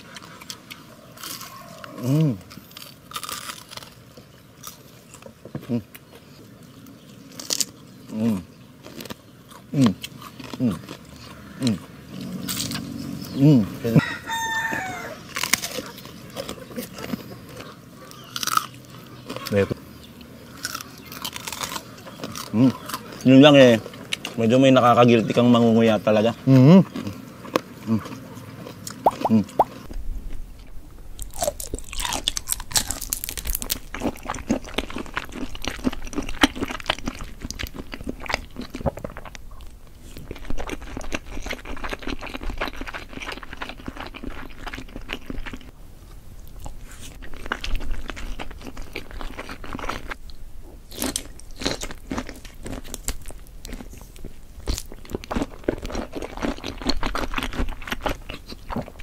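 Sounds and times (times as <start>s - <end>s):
person chewing and biting: 0.0s - 6.2s, 7.1s - 7.9s, 8.8s - 13.3s, 14.0s - 24.4s, 26.8s - 45.7s, 46.5s - 59.0s
wet crunchy mouth sounds: 0.0s - 6.3s, 7.2s - 25.6s, 26.3s - 45.7s, 46.5s - 59.0s.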